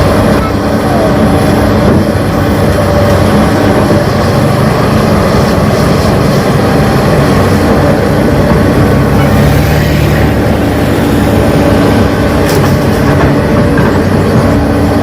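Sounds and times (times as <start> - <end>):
model excavator mechanical drone: 0.0 - 15.0.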